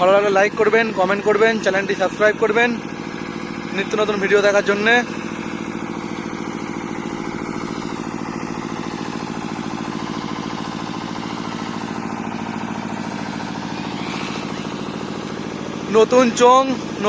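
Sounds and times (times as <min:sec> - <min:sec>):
generator engine idling: 0:00.0 - 0:17.0.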